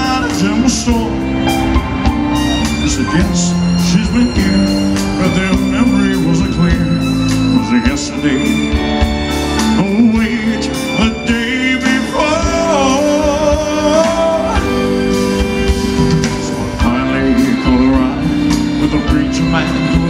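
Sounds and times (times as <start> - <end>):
live country-rock band: 0.0 - 20.0.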